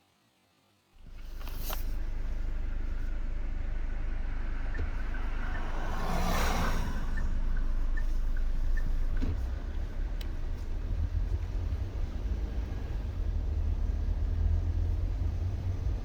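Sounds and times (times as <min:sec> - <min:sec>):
road vehicle rumbling: 0:01.0 - 0:16.0.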